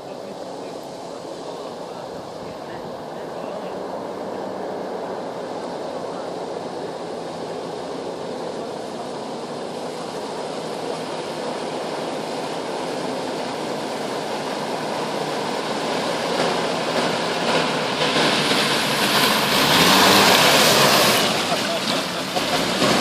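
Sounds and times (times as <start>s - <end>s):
off-road vehicle engine: 0.0s - 23.0s
tyres splashing through mud: 0.0s - 23.0s.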